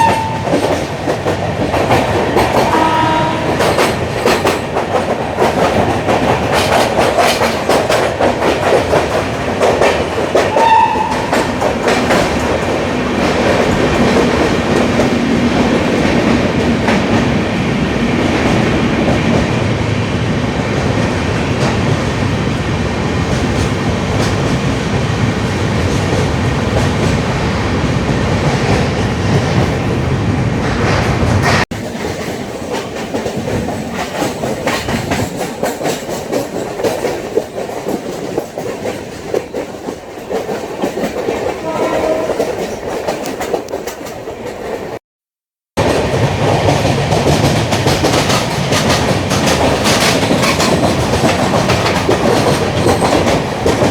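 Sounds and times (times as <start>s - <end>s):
train wheels rumbling on track: 0.0s - 45.0s, 45.8s - 53.9s.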